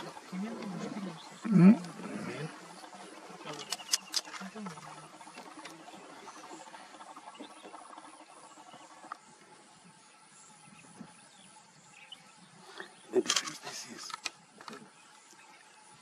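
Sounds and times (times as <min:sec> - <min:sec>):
steady soft hiss: 0:00.0 - 0:16.0.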